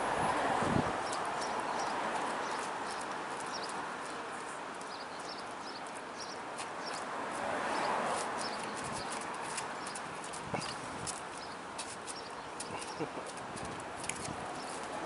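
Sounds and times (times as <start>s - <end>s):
small birds chirping: 1.0s - 7.1s, 7.7s - 14.9s.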